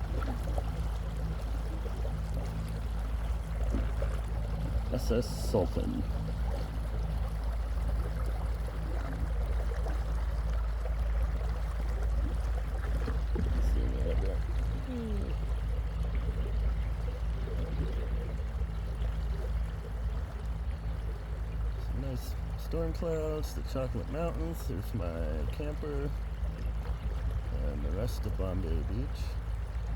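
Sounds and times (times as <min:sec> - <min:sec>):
boat engine rumble: 0:00.0 - 0:29.9
water splashing along hull: 0:00.0 - 0:29.9.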